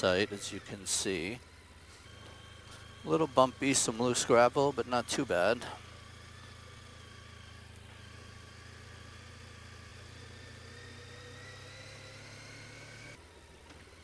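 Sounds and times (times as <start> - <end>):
motorcycle engine whine: 0.0 - 14.0.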